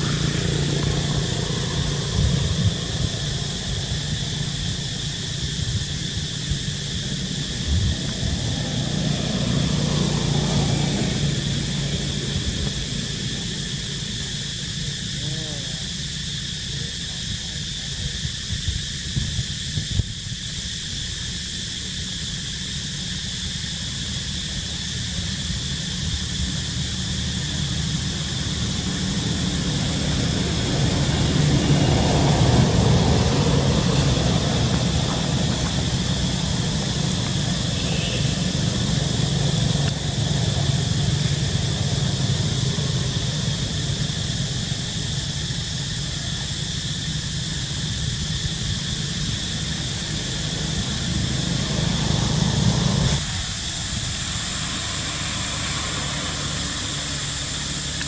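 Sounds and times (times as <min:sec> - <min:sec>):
distant engine passing: 0:00.0 - 0:19.0, 0:21.8 - 0:58.0
insects droning: 0:00.0 - 0:58.0.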